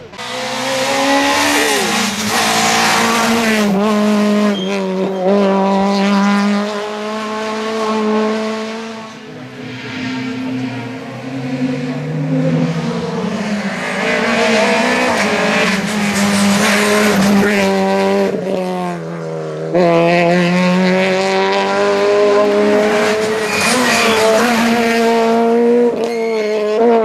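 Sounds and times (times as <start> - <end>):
rally car engine at high revs: 0.0 - 27.0.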